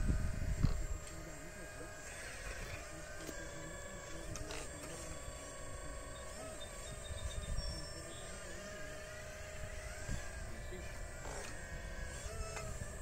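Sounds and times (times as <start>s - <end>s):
model excavator electric motor whining: 0.0s - 13.0s.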